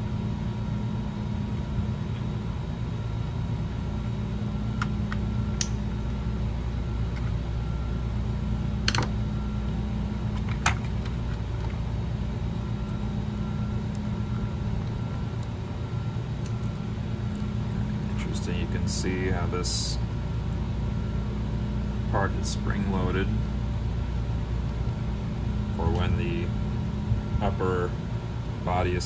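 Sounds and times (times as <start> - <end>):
steady low background hum: 0.0 - 29.0.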